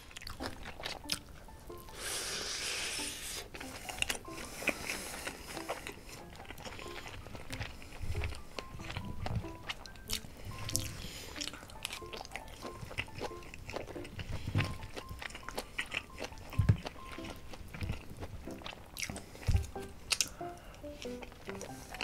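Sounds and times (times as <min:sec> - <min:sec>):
light background music: 0:00.0 - 0:22.0
person chewing with clicks and smacks: 0:00.0 - 0:22.0.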